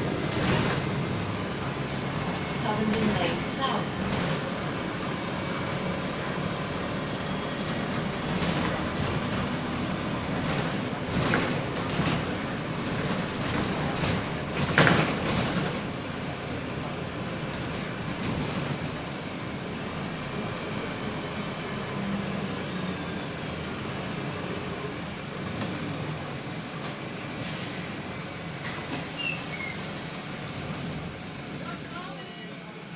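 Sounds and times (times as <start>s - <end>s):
bus running and road noise: 0.0s - 32.9s.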